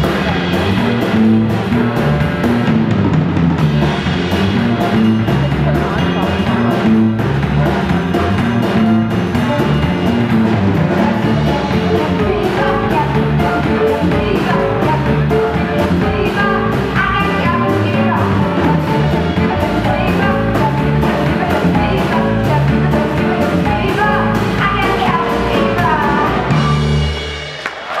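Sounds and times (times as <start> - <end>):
jazz band playing swing: 0.0 - 27.6.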